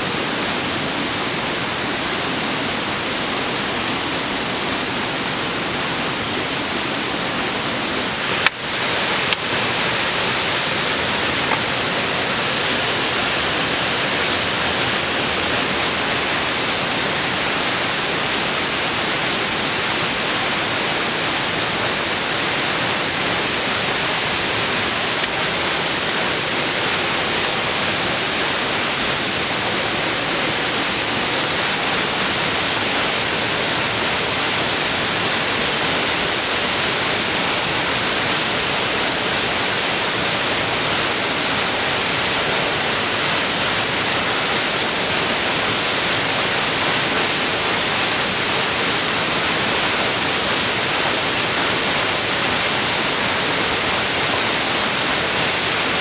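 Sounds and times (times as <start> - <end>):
waterfall pouring: 8.0 - 56.0.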